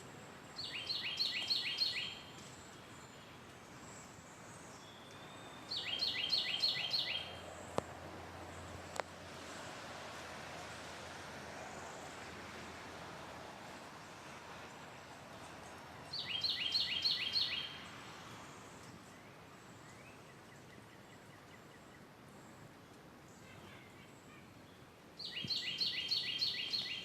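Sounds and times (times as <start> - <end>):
songbird chirping: 0.0 - 9.2, 13.7 - 27.0
faint background hiss: 0.0 - 27.0.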